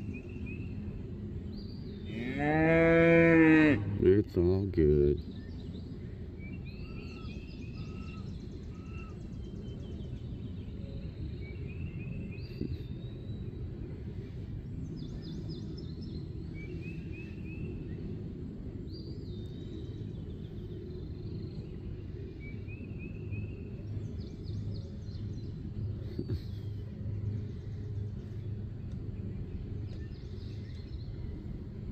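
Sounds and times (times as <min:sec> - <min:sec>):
birds chirping and trilling: 0:00.0 - 0:31.9
steady low rumble: 0:00.0 - 0:31.9.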